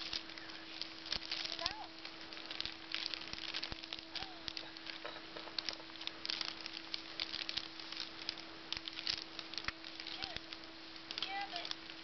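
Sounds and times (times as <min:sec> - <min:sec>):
faint steady hum: 0:00.0 - 0:12.0
wrapping paper crinkling: 0:00.0 - 0:12.0.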